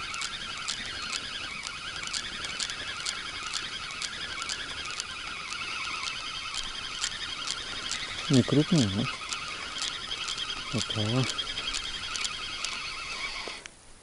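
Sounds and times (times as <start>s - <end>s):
reel handle clicking: 0.0s - 13.7s
spinning reel whirring: 0.0s - 13.7s.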